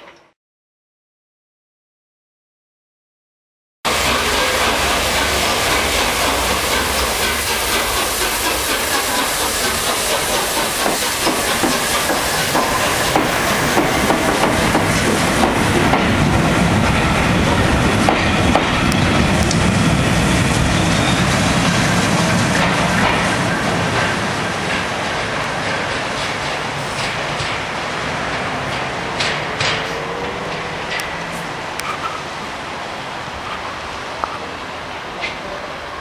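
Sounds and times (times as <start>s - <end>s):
train wheels on rails: 3.9s - 36.0s.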